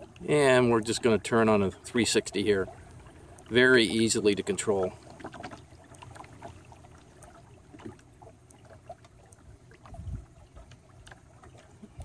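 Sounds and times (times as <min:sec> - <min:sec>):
small waves lapping against hull: 0:00.0 - 0:12.0.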